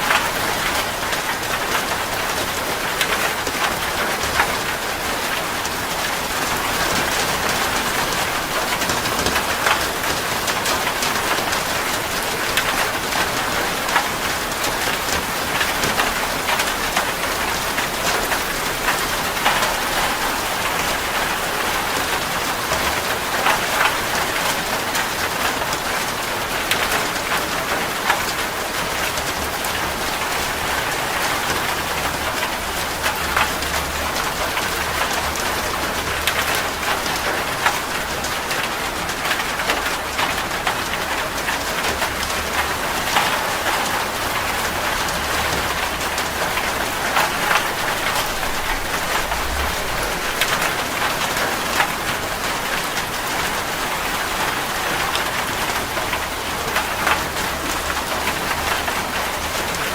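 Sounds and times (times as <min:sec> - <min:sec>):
rain drops striking a surface: 0:00.0 - 0:59.9.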